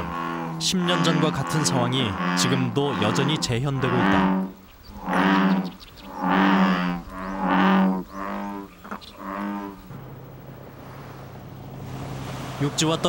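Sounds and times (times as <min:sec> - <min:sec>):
bullfrog calling: 0:00.0 - 0:12.0
steady low hum: 0:00.0 - 0:13.0.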